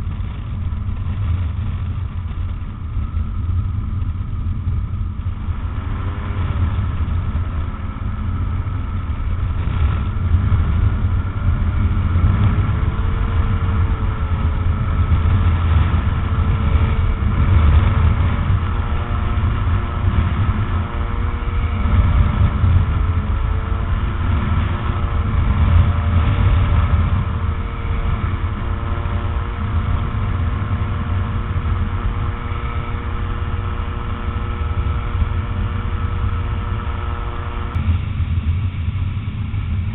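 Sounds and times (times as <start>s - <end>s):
aircraft engine and propeller: 0.0s - 39.9s
wind rumble on microphone: 0.0s - 39.9s.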